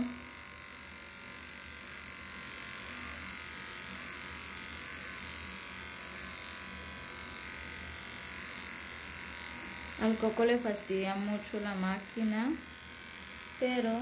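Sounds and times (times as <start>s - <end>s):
electric hair clipper running: 0.0s - 14.0s.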